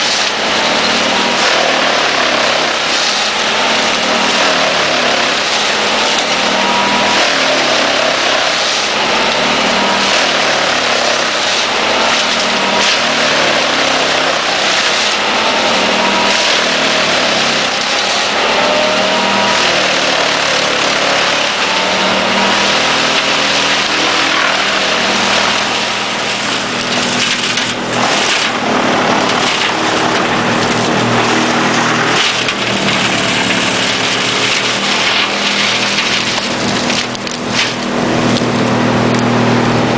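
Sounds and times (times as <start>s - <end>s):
diesel engine running: 0.0s - 39.9s
drum chipper chipping wood: 0.0s - 39.9s.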